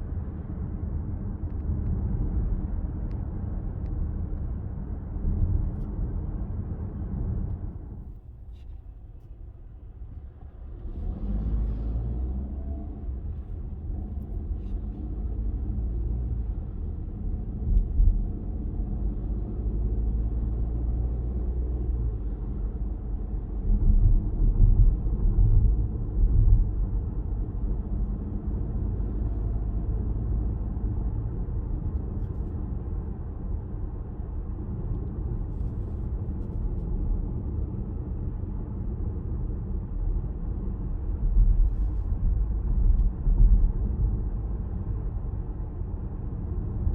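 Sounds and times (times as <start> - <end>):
car road and engine rumble: 0.0 - 46.9.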